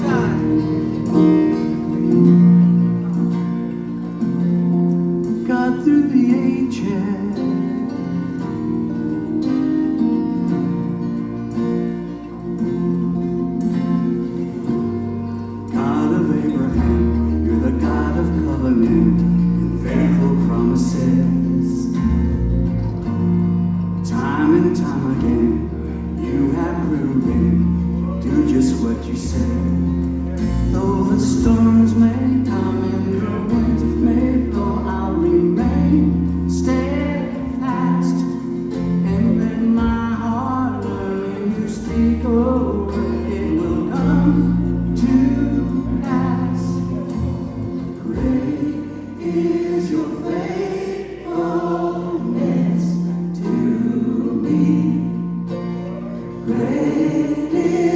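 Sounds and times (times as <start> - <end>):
bass line: 0.0 - 57.9
choir singing gospel: 0.0 - 57.9.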